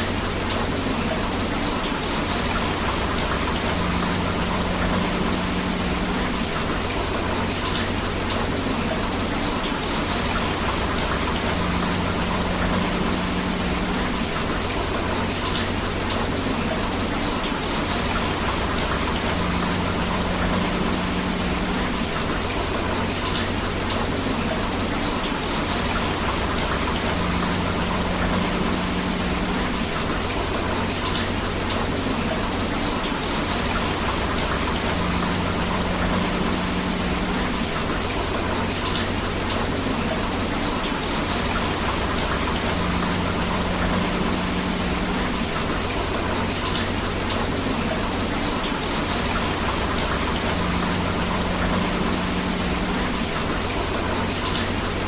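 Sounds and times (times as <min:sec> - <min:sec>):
rushing river water: 0:00.0 - 0:55.0
steady rain: 0:00.0 - 0:55.0.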